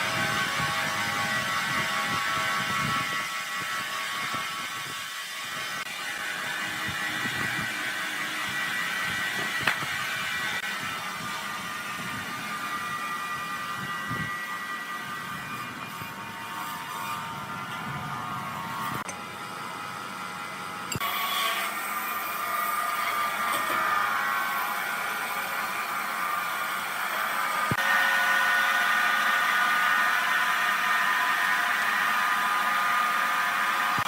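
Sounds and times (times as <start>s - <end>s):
sawmill machinery whining: 0.0s - 34.0s.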